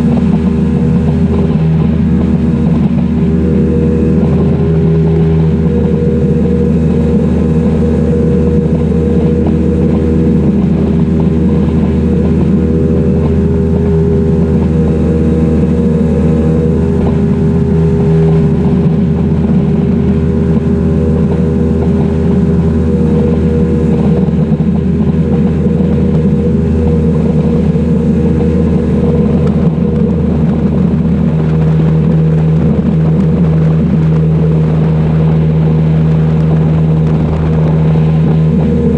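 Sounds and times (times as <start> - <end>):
outboard motor droning: 0.0 - 38.9.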